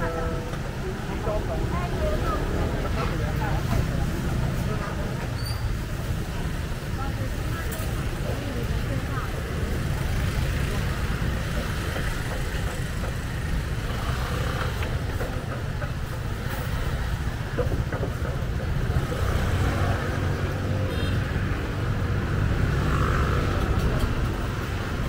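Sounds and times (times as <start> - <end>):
passing cars rumbling: 0.0 - 25.0.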